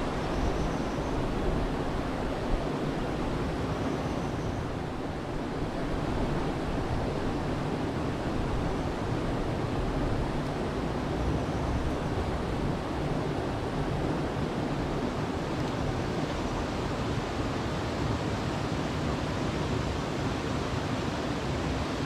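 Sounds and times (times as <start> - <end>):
river water flowing over rocks: 0.0 - 22.0
wind rumble on microphone: 0.0 - 22.0.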